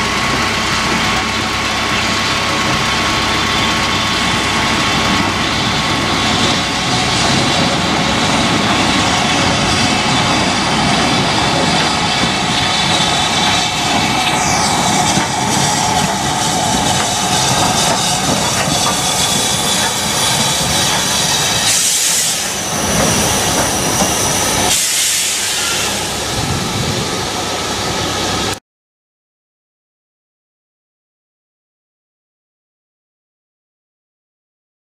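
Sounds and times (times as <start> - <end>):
loud steam hiss: 0.0 - 28.6
train rumble: 0.0 - 28.6.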